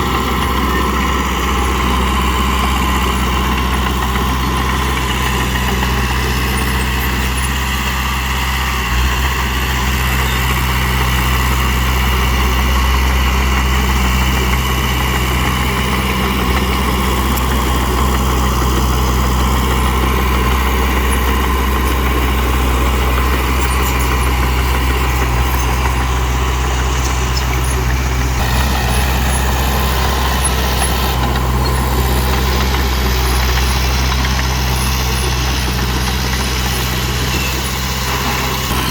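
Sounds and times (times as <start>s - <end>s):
truck engine droning: 0.0s - 38.9s.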